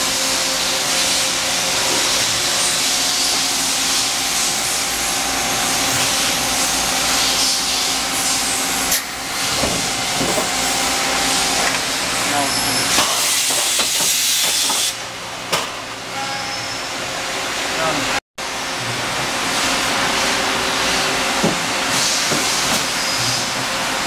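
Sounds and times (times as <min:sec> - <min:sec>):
shop machinery hissing: 0:00.0 - 0:24.0.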